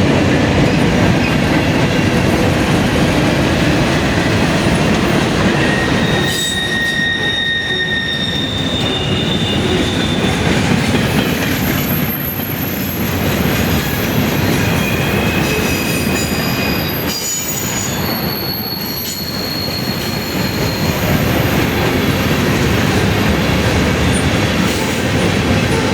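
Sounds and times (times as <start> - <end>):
freight train rumbling past: 0.0 - 25.9
train wheels squealing: 4.2 - 25.9.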